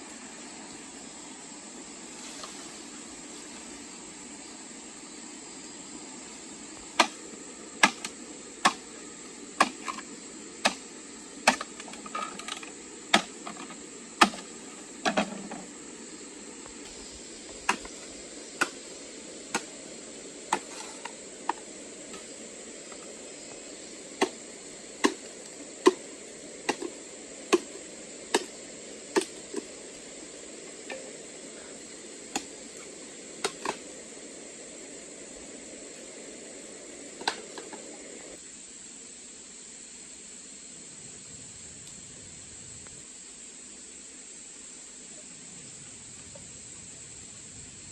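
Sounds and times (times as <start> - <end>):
steady high hiss: 0.0 - 47.9.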